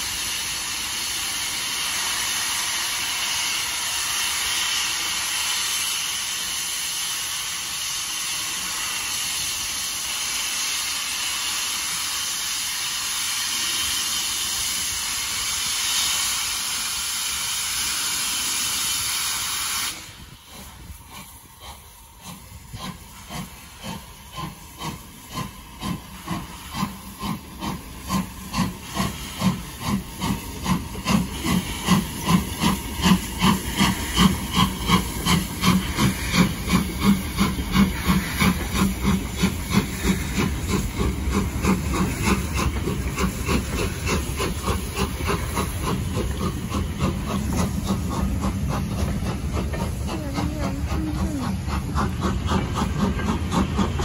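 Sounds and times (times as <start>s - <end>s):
steam hissing: 0.0s - 54.0s
steam locomotive chuffing: 0.0s - 54.0s.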